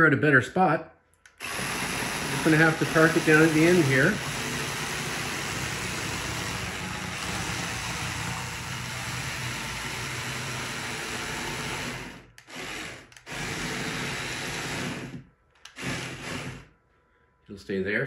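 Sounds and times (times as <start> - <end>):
electric motors running: 1.3 - 16.7.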